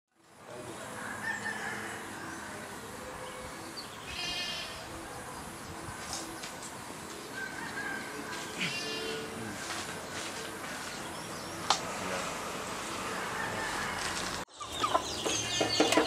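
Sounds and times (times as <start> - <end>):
birds calling: 0.5 - 16.0
chickens calling: 0.6 - 16.0.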